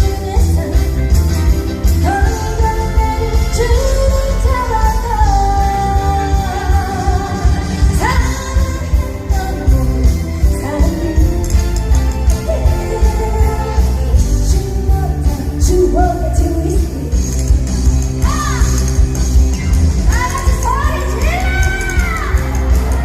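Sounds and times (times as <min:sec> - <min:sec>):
woman singing: 0:00.0 - 0:17.5, 0:20.1 - 0:22.4.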